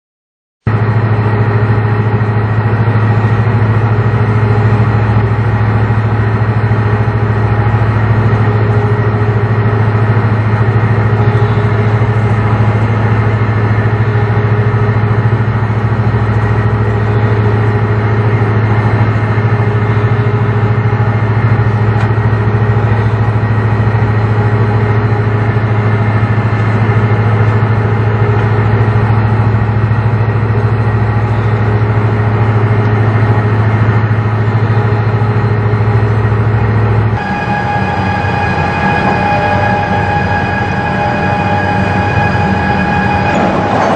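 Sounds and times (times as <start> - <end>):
heavy engine humming: 0.6 - 43.9.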